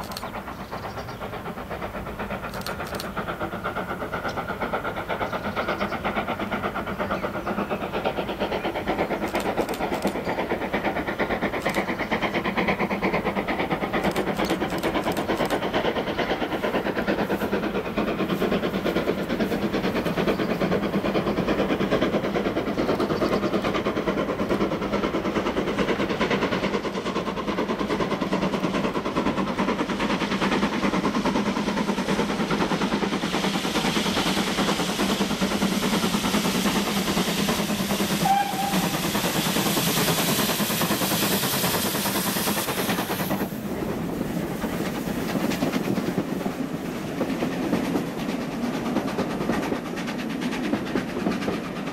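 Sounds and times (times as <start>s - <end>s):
coaches rolling on rails: 0.0s - 51.9s
steam hiss: 0.0s - 51.9s
steam locomotive passing: 0.0s - 51.9s.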